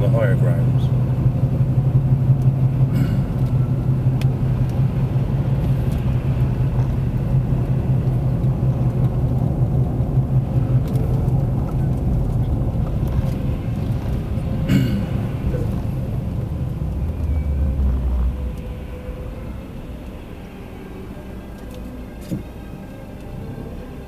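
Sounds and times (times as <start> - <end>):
tyre and road rumble: 0.0 - 22.7
car engine drone: 0.0 - 24.0.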